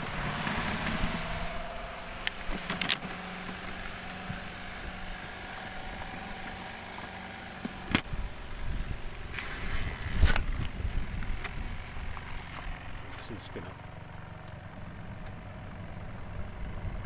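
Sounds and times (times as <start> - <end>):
spin dryer motor hum: 0.0 - 17.0.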